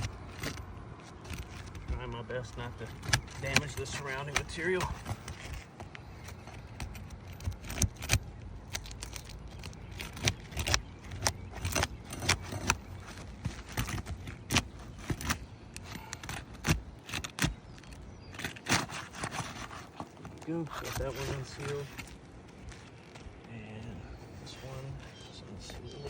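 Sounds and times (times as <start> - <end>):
roof shingles being pried loose: 0.0 - 23.4.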